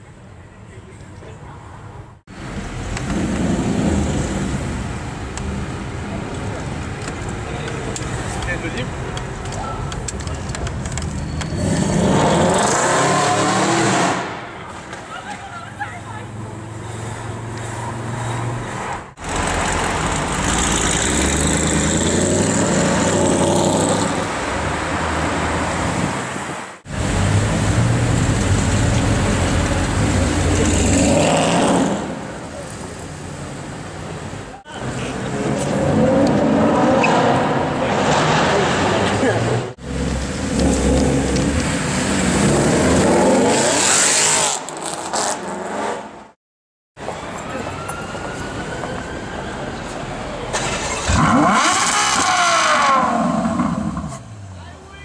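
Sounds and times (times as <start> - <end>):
quieter traffic: 0.0 - 46.4, 47.0 - 55.0.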